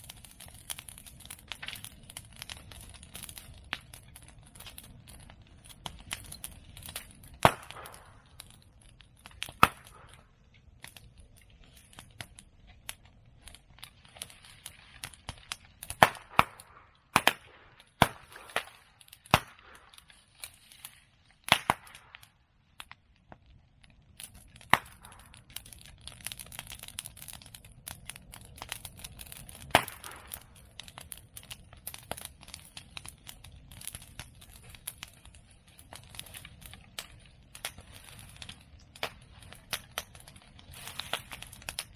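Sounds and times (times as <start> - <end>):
bamboo bursting with sharp pops: 0.0 - 23.5, 24.2 - 41.9
bonfire crackling: 0.0 - 41.9.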